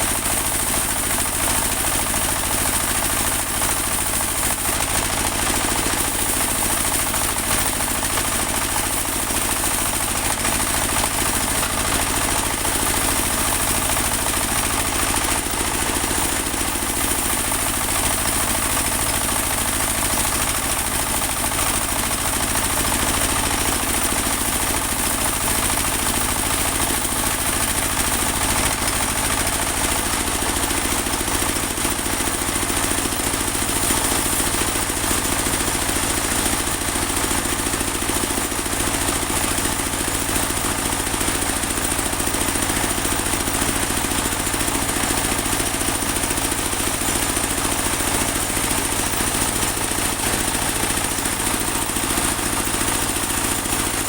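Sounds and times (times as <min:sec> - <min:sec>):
sawmill engine drone: 0:00.0 - 0:54.0.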